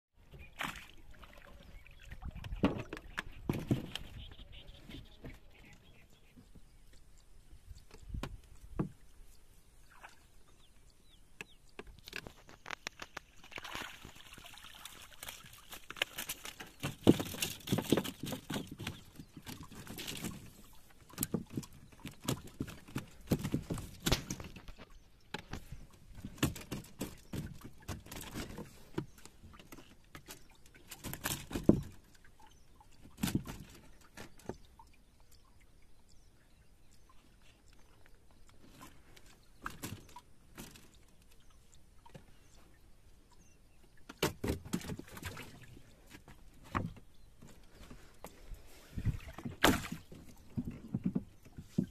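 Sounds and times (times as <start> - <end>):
shallow water splashing: 0.4 - 51.9.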